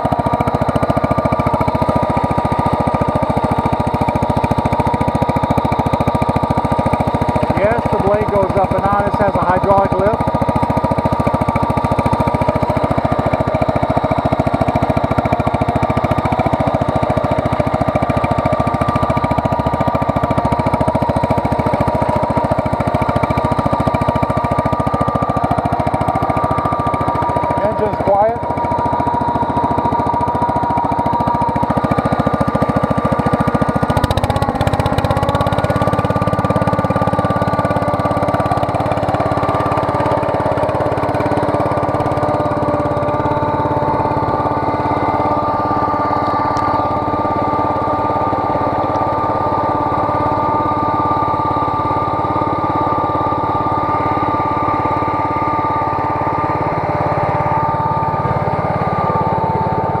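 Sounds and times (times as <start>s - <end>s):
engine knock: 0.0s - 60.0s
tractor engine running steadily: 0.0s - 60.0s.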